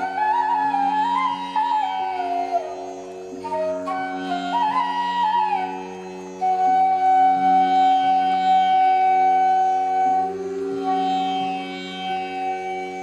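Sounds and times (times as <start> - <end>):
flute melody: 0.0 - 13.0.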